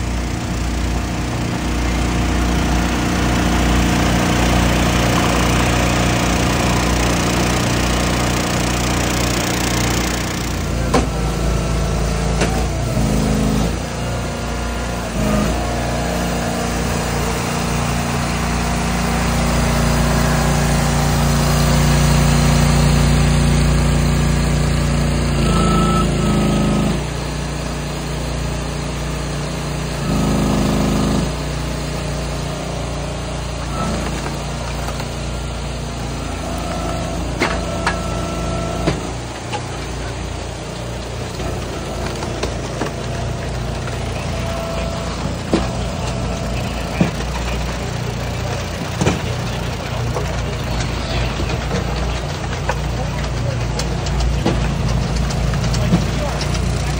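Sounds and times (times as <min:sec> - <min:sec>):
engines running: 0:00.0 - 0:56.9.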